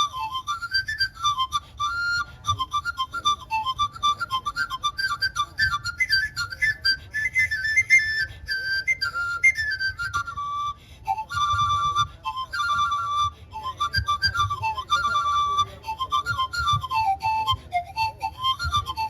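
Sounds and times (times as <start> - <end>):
panpipe melody: 0.0 - 19.0.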